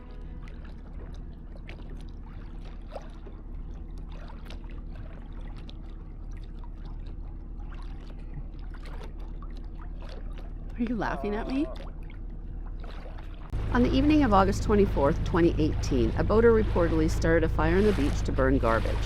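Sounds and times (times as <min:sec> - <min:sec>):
boat engine running: 0:00.0 - 0:19.0
water splashing and trickling: 0:00.0 - 0:19.0.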